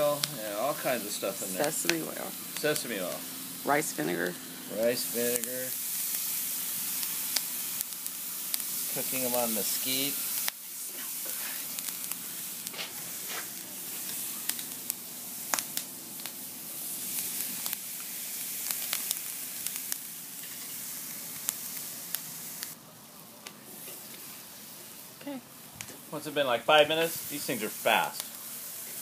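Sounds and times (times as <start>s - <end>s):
popping and crackling: 0.0s - 22.8s, 26.7s - 29.0s
meat sizzling on a grill: 0.0s - 29.0s.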